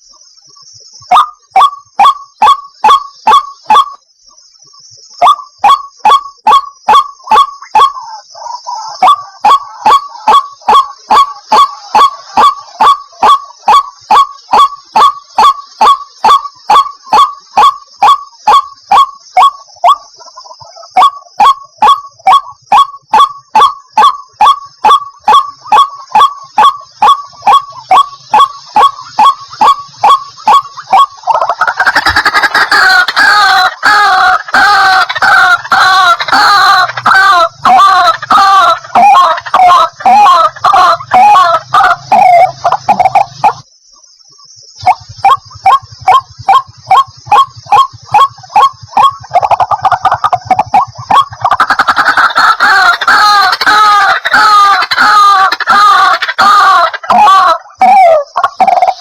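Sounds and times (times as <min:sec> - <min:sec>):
faint high-pitched hiss: 0:00.0 - 0:59.0.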